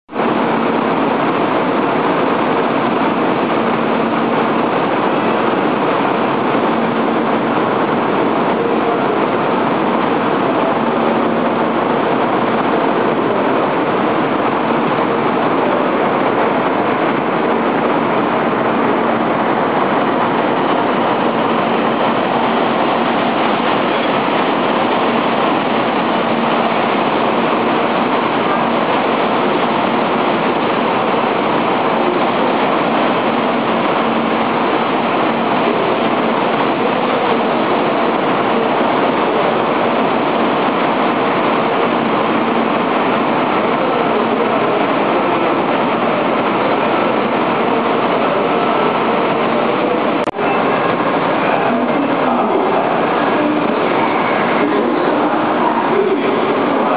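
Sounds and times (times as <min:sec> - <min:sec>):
train running: 0:00.1 - 0:56.9.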